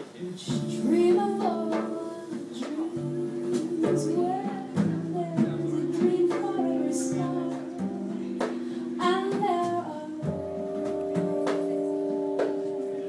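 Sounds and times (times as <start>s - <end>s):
woman singing: 0.4s - 13.0s
plucked double bass: 0.5s - 13.0s.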